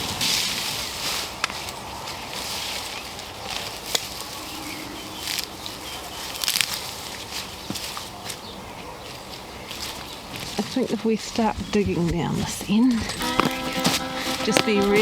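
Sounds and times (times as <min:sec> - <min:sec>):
vines and leaves rustling: 0:00.0 - 0:15.0.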